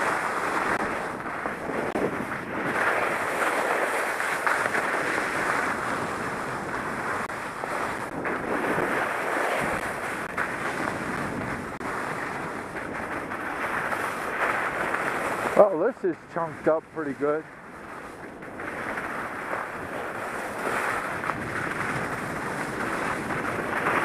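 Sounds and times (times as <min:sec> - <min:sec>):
wind buffeting microphone: 0:00.0 - 0:03.5, 0:04.5 - 0:24.0
skis scraping over snow: 0:00.0 - 0:24.0.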